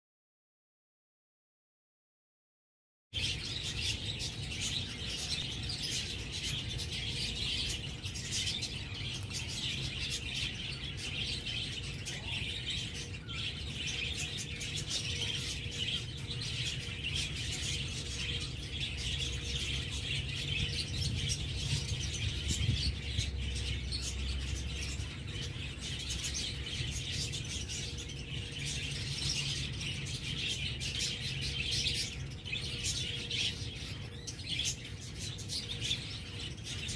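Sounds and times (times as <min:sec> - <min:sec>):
small birds chirping: 0:03.2 - 0:36.9.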